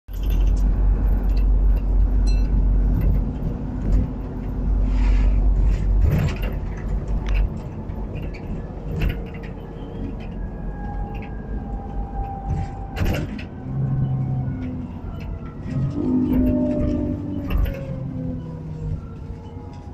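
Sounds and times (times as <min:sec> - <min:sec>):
bus diesel engine rumble: 0:00.1 - 0:19.9.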